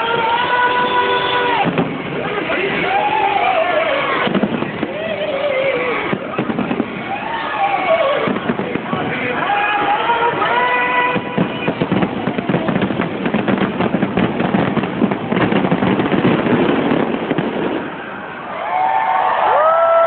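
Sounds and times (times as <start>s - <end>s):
fireworks bangs and crackling: 0.0s - 18.9s.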